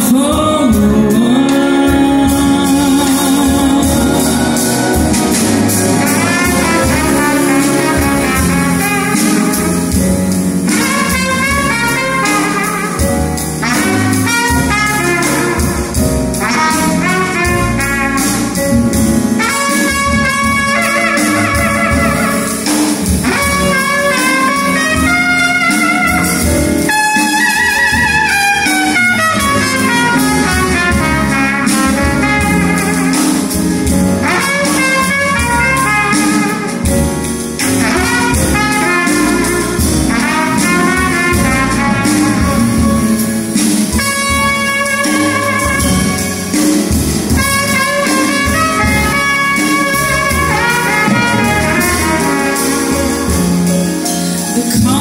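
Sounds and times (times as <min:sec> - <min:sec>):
orchestra accompaniment: 0:00.0 - 0:55.0
trumpet playing jazz melody: 0:00.0 - 0:55.0.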